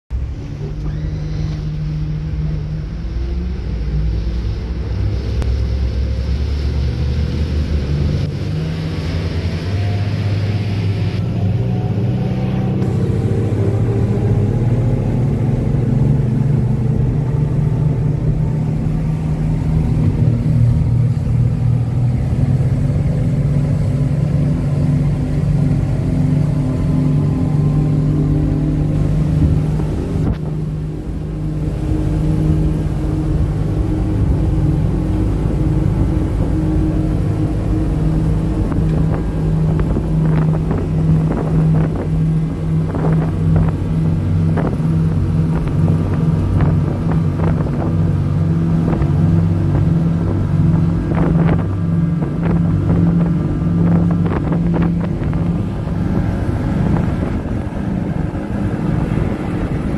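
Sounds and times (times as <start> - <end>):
outboard motor running: 0.1 - 59.9.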